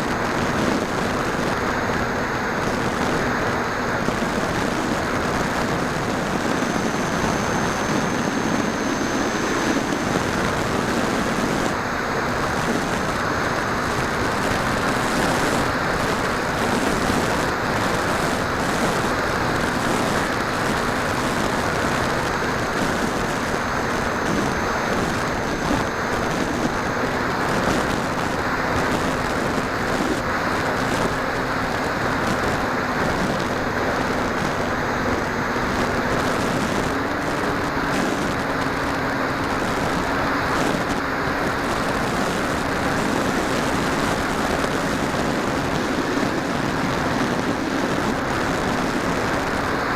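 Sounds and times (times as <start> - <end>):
model aircraft motor and propeller: 0.0 - 49.9.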